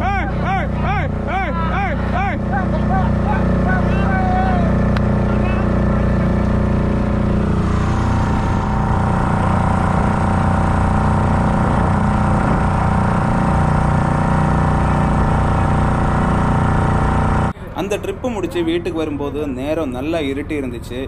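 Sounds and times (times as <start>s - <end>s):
motorboat engine running: 0.0s - 17.6s.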